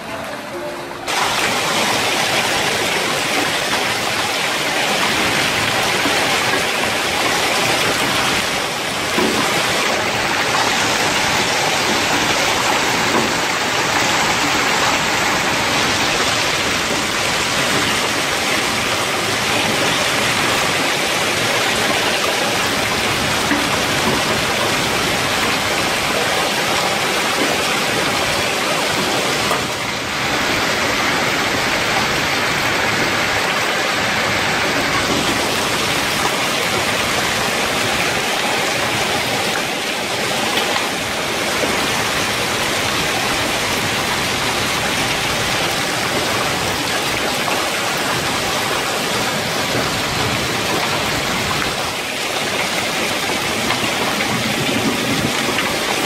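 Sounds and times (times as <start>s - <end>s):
hail and heavy rain falling: 1.1s - 56.0s.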